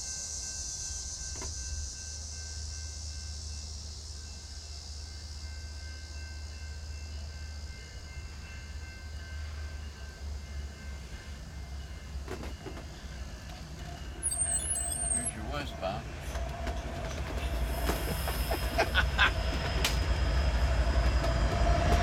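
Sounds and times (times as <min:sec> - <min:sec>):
high-pitched hiss: 0:00.0 - 0:16.3, 0:17.4 - 0:20.9
distant freight train rumble: 0:00.0 - 0:22.0.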